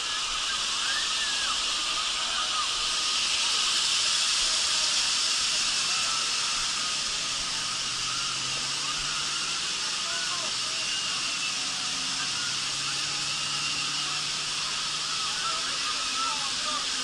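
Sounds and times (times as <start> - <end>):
distant voices and shrieks: 0.0 - 17.0
rushing water hiss: 0.0 - 17.0.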